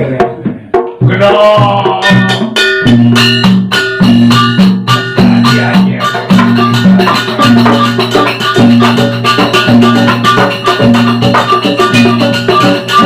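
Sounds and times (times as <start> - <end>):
drums: 0.0 - 13.0
struck metal percussion: 0.0 - 13.0.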